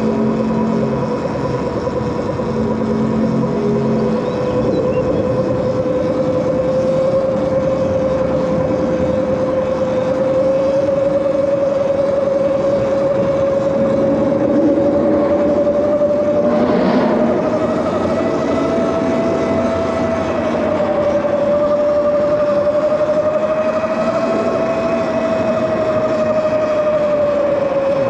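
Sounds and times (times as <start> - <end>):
electric bike motor whining: 0.0 - 28.0
wind and road noise: 0.0 - 28.0.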